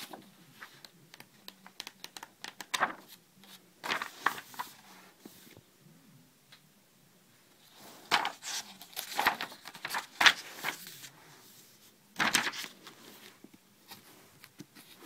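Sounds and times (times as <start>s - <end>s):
paper pages rustling: 0.0s - 5.6s, 7.6s - 15.0s.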